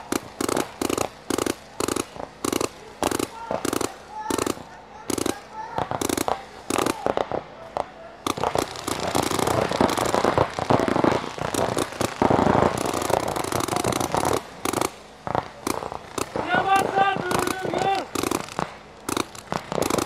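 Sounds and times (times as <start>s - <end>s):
paintball markers firing: 0.0s - 20.0s.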